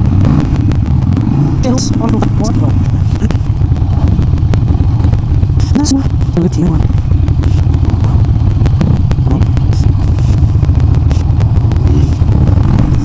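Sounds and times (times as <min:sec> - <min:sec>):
motorcycle engine rumbling: 0:00.0 - 0:13.0
wind buffeting microphone: 0:00.0 - 0:13.0.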